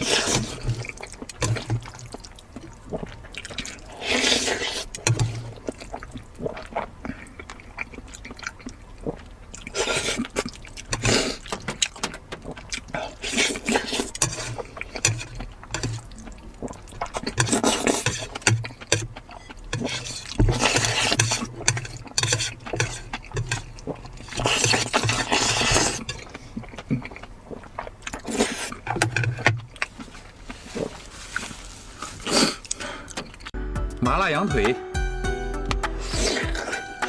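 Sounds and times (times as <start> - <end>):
wet chewing and slurping: 0.0 - 33.6, 35.8 - 37.0.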